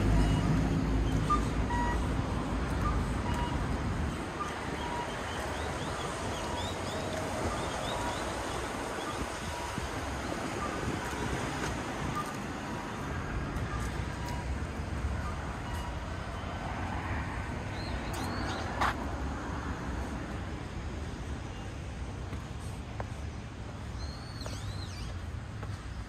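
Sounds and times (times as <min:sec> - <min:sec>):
passing vehicle rumble: 0:00.0 - 0:25.5
steady road traffic: 0:00.0 - 0:26.0.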